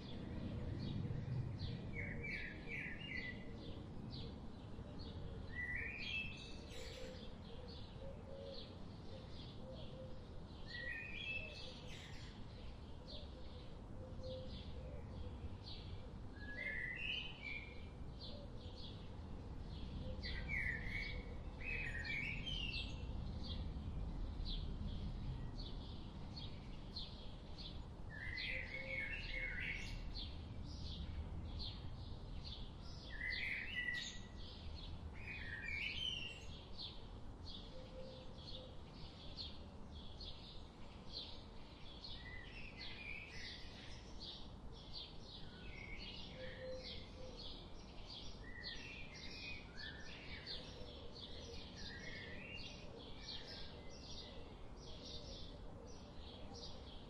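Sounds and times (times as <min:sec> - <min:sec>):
low rumbling background noise: 0:00.0 - 0:57.0.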